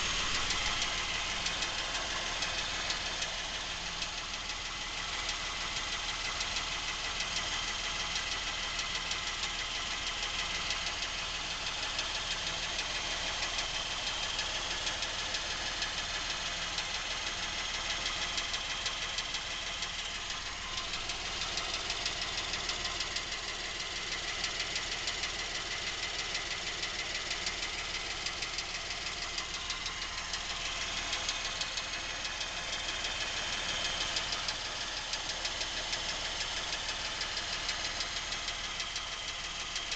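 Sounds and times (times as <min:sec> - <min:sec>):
engine idling: 0:00.0 - 0:39.9
rapid engine knocking: 0:00.0 - 0:39.9.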